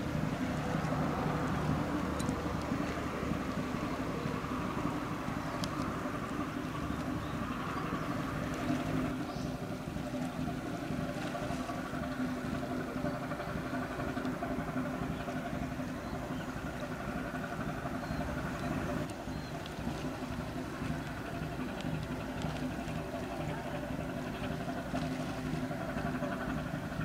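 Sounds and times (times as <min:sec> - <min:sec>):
ship diesel engine droning: 0:00.0 - 0:27.0.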